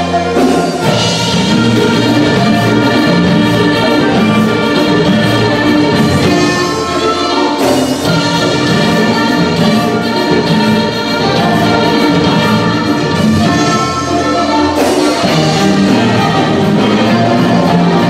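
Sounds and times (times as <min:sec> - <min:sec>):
dance music with horns: 0:00.0 - 0:18.0.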